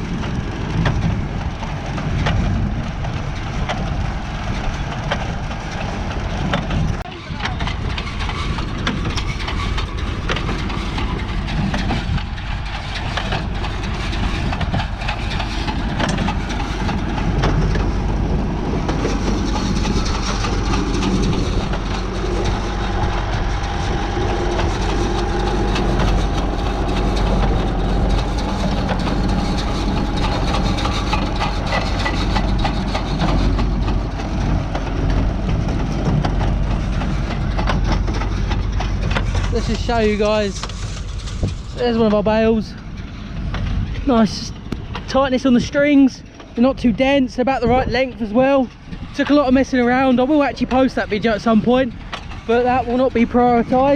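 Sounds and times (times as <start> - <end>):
baler mechanism clattering: 0.0 - 53.9
tractor engine running: 0.0 - 53.9.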